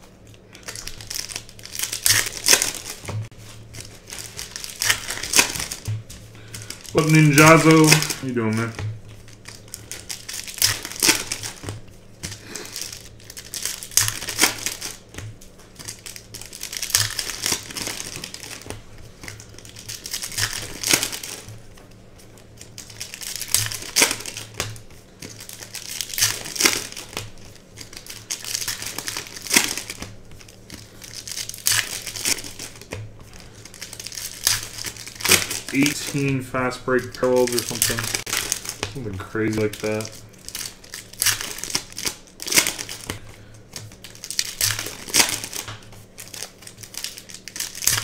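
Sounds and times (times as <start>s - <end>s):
foil wrappers tearing and crinkling: 0.0s - 48.0s.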